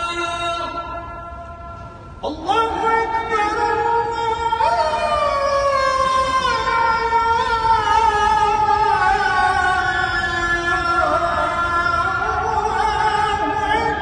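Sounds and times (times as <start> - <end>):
man chanting call to prayer: 0.0 - 14.0.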